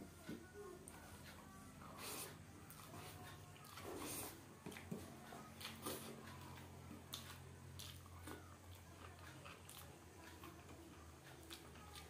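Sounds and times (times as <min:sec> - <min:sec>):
chewing: 0:00.9 - 0:12.0.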